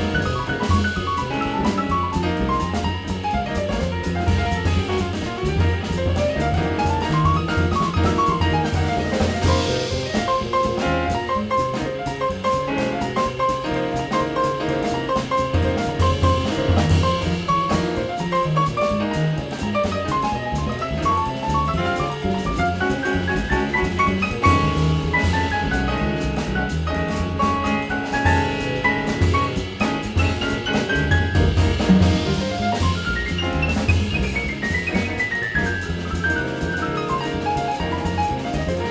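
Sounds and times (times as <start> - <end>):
jazz group playing: 0.0 - 38.9
piano melody: 0.0 - 38.9
plucked double bass: 0.0 - 38.9.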